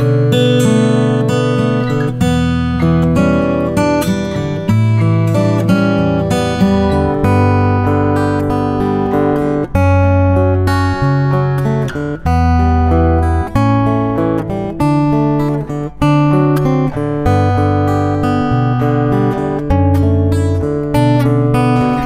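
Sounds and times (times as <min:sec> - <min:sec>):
acoustic guitar strummed chords: 0:00.0 - 0:22.0.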